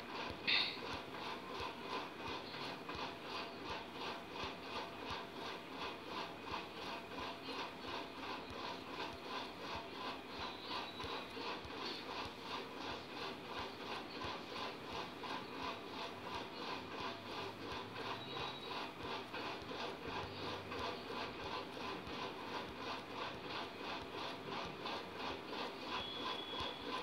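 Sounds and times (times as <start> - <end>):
rhythmic rubbing or scraping: 0.0 - 27.0.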